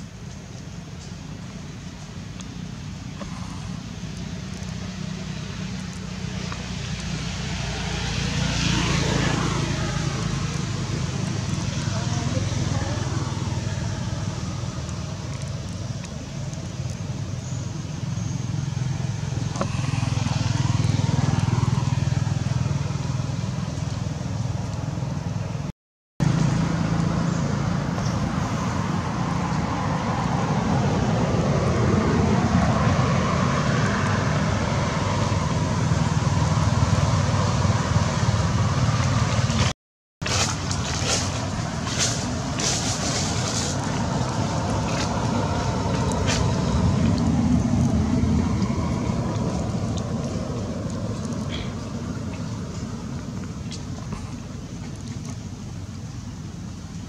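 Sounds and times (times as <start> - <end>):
road traffic rumble: 0.0 - 57.0
vehicles passing: 0.0 - 57.0.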